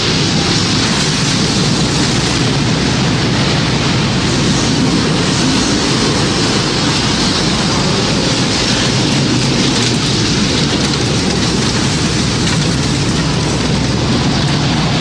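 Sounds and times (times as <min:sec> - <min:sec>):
wind and rain rushing: 0:00.0 - 0:15.0.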